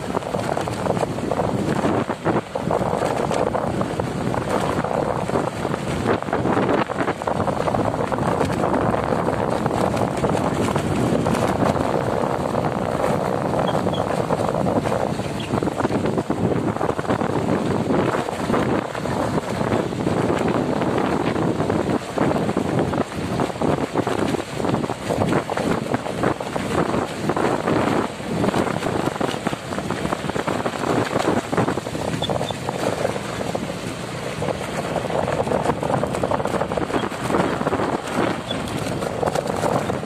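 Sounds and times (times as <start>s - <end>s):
vehicle and road rumble: 0.0s - 40.0s
wind buffeting microphone: 0.0s - 40.0s.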